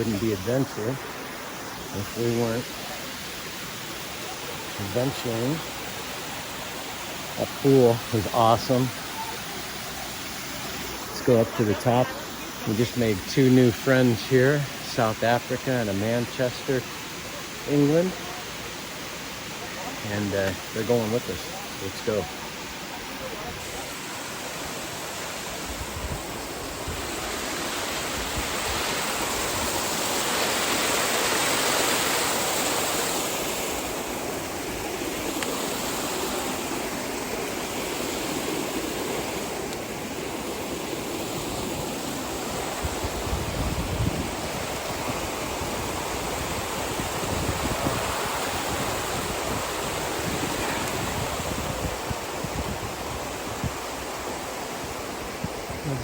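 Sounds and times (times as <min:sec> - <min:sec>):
waterfall rushing water: 0:00.0 - 0:56.0.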